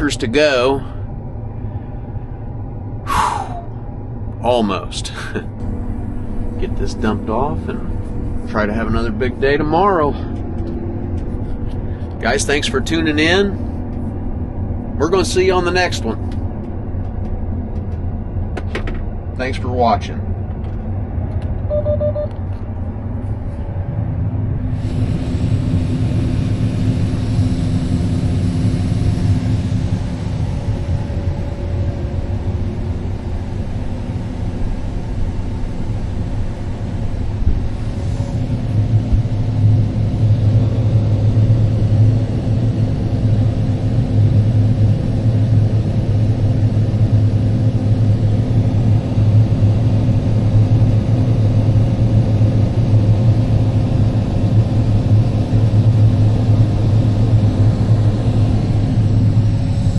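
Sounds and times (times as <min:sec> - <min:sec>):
heavy vehicle engine droning: 0:00.0 - 0:59.9.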